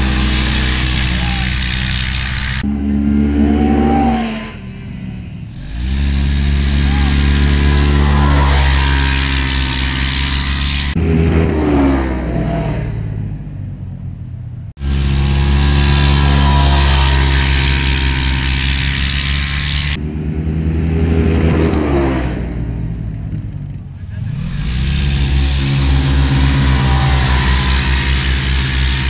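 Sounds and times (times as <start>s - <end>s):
utility vehicle engines at full throttle: 0.0s - 29.0s.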